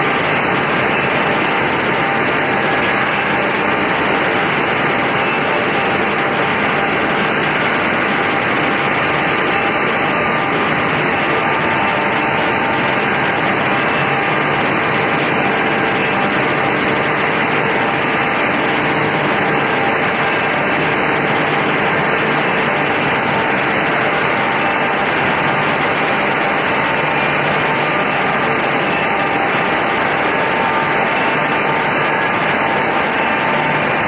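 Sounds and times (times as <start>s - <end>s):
edgebanding machine running: 0.0s - 34.0s.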